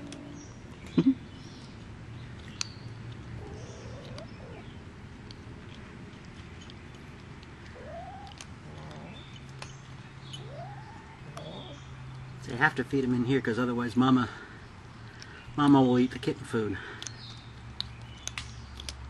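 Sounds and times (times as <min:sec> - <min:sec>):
kittens crunching kibble: 0:00.0 - 0:13.0, 0:13.9 - 0:19.0.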